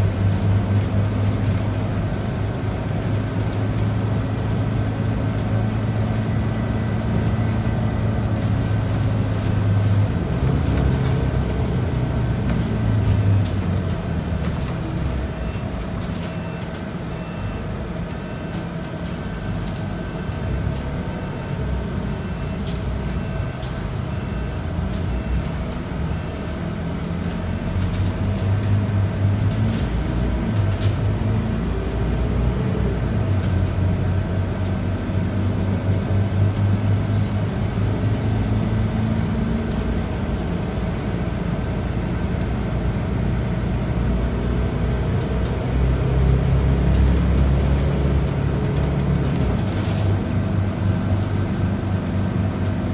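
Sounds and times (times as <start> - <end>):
bus diesel engine pulling: 0.0 - 52.9.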